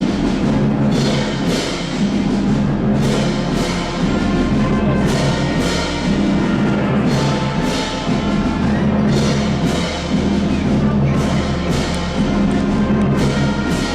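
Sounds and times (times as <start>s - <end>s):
drum strikes: 0.0s - 13.9s.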